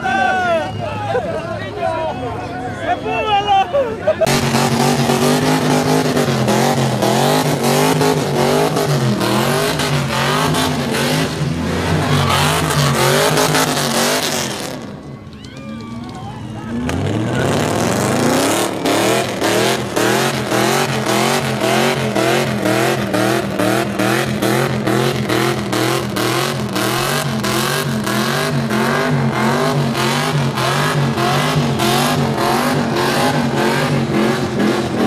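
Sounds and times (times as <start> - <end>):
tyres screeching on asphalt: 0.0 - 35.0
car engine at high revs: 4.2 - 15.0, 16.6 - 35.0.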